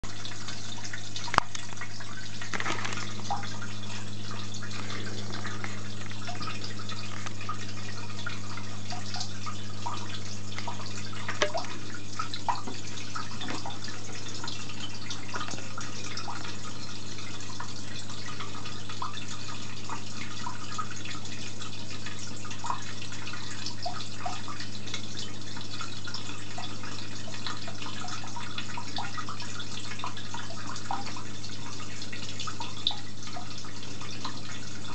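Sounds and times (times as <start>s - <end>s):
water trickling and dripping: 0.0s - 34.9s.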